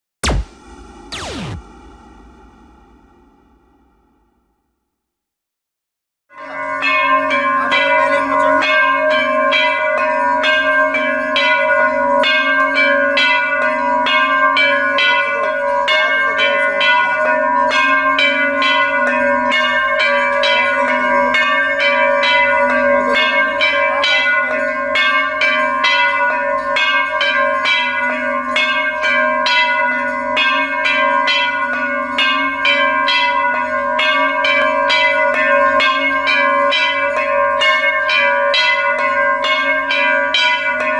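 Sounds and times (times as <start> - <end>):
bells ringing rapidly: 6.4 - 40.9.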